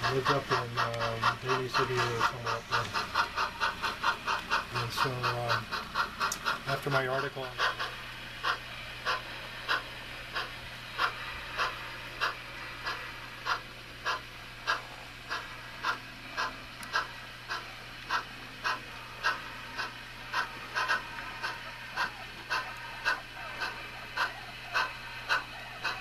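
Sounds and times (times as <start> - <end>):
steady low hum: 0.0 - 26.0
steam locomotive chuffs: 0.0 - 26.0.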